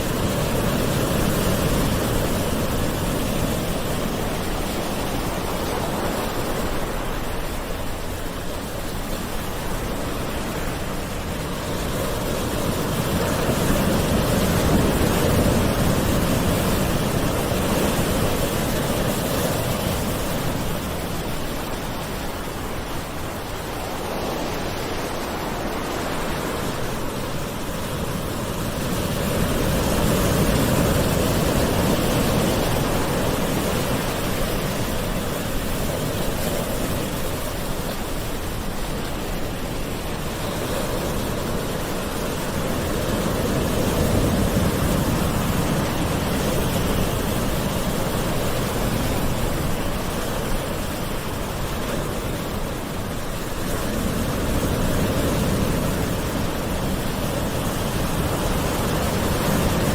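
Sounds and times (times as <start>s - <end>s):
ocean waves washing onto shore: 0.0s - 59.9s.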